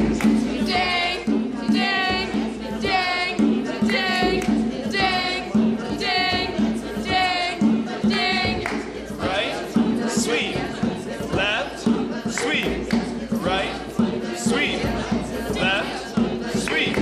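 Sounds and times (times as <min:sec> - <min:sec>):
group of voices singing: 0:00.0 - 0:17.0.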